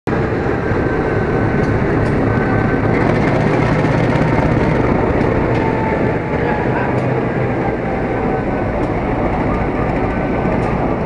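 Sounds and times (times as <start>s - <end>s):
diesel locomotive engine humming: 0.1s - 11.0s.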